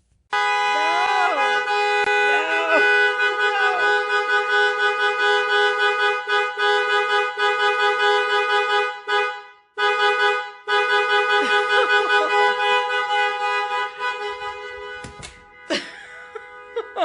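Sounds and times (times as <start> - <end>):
two-note car horn blaring: 0.3 - 17.0.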